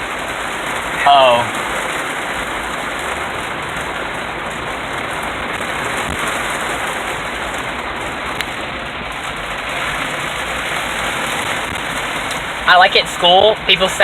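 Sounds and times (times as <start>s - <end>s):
heavy rain on a car: 0.0s - 14.0s.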